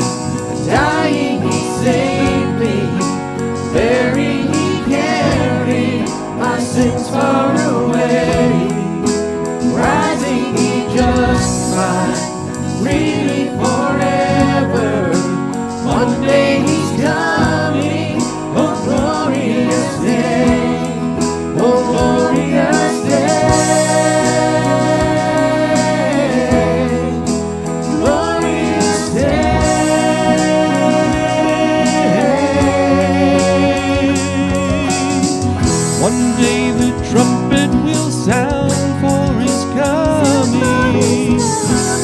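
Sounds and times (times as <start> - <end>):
band playing worship song: 0.0 - 42.0.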